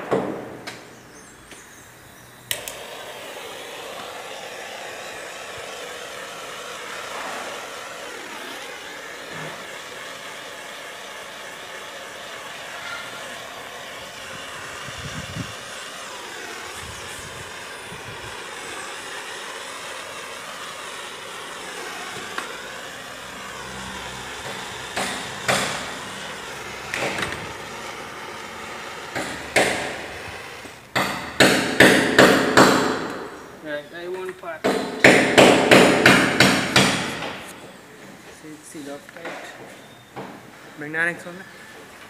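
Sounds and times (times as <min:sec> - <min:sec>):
propane torch hissing: 0:00.5 - 0:42.0.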